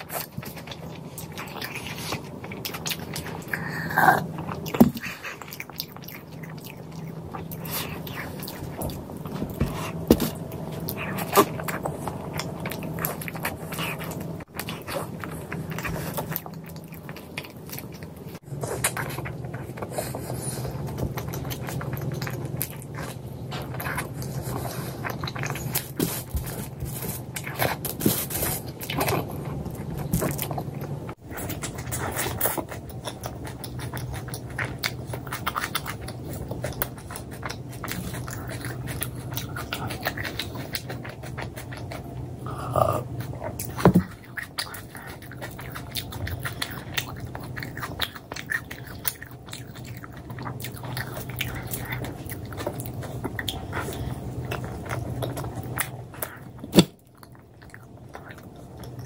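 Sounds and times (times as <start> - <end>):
person chewing food: 0.0 - 59.0
steady low hum: 0.0 - 59.0.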